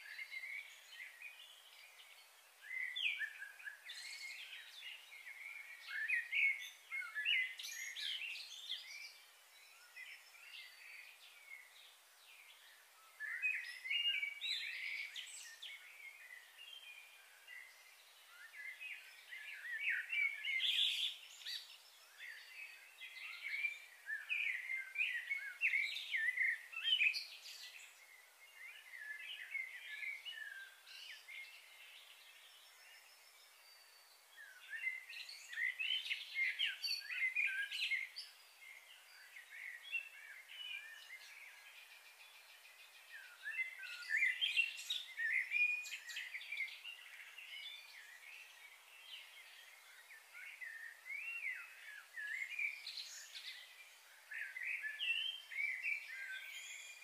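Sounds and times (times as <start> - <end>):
birds chirping and twittering: 0.0 - 57.0
faint steady hiss: 0.0 - 57.0.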